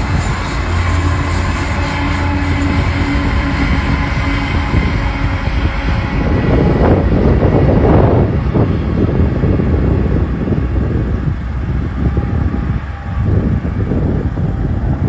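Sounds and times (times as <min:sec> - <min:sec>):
locomotive engine rumble: 0:00.0 - 0:15.0
train wheels on rails: 0:00.0 - 0:15.0.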